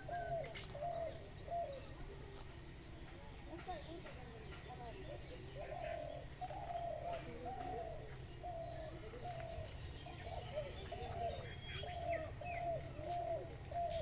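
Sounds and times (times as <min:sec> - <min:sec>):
birds calling: 0:00.0 - 0:02.3, 0:03.0 - 0:14.0.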